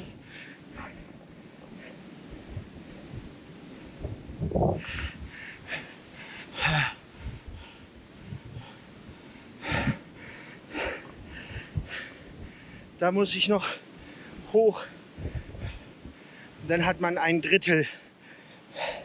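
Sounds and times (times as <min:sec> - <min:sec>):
man breathing hard: 0:00.0 - 0:04.0, 0:04.6 - 0:13.0, 0:13.8 - 0:14.4, 0:15.0 - 0:16.6, 0:17.9 - 0:19.0.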